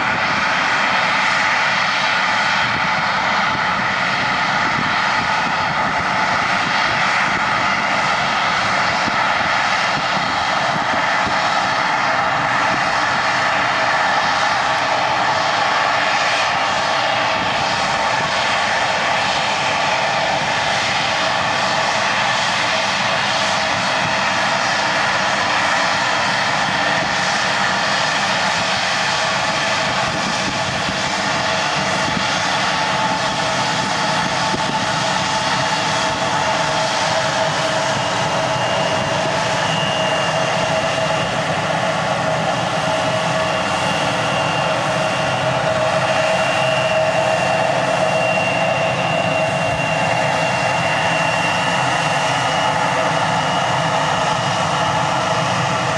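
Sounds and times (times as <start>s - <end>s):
jet engines whining at low power: 0.0s - 55.9s.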